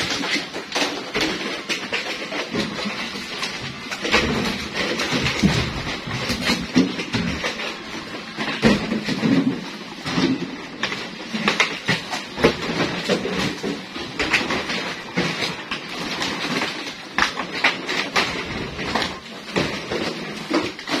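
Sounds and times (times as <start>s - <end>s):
plastic crates clattering: 0.0s - 21.0s.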